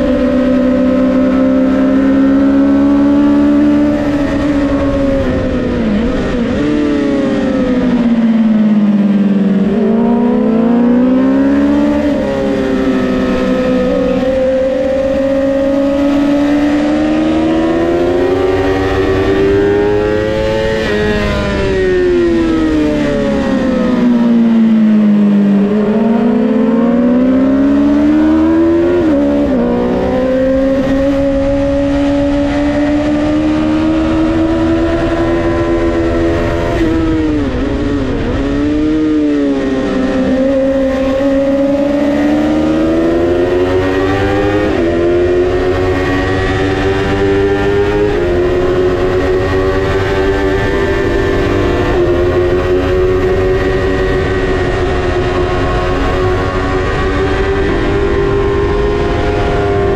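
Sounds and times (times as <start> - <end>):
motorcycle engine at racing speed: 0.0 - 59.9.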